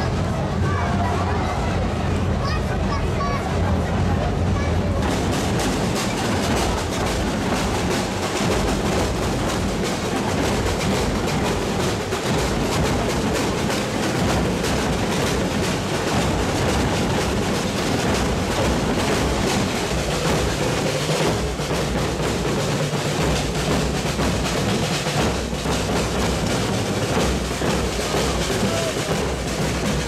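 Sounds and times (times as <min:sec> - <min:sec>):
marching drum corps drumming: 0:00.0 - 0:30.0.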